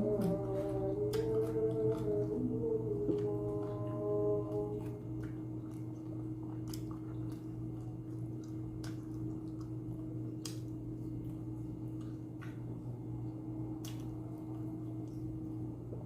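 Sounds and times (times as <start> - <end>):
low hum: 0.0 - 16.0
wet mouth chewing sounds: 0.0 - 16.0.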